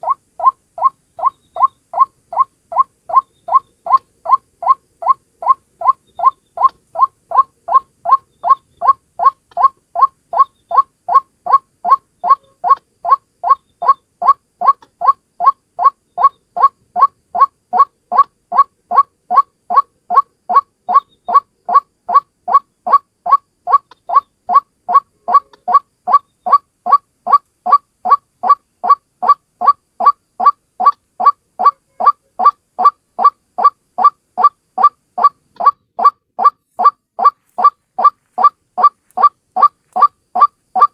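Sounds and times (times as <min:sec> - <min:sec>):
waterhen calling: 0:00.0 - 0:40.9.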